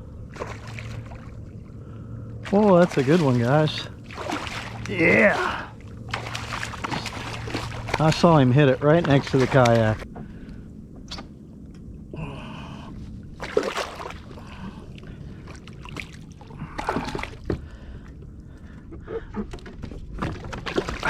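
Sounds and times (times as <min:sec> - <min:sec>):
water splashing around kayak: 0:00.1 - 0:10.5, 0:13.3 - 0:18.9, 0:19.5 - 0:21.0.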